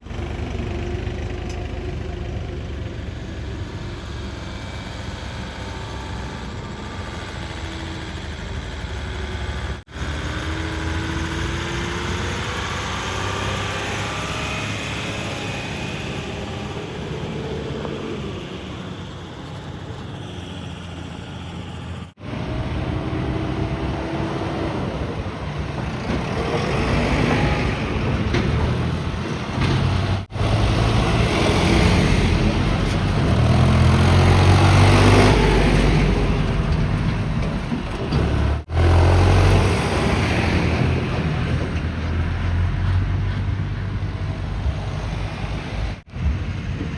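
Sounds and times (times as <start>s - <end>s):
diesel engines running and revving: 0.0s - 46.9s.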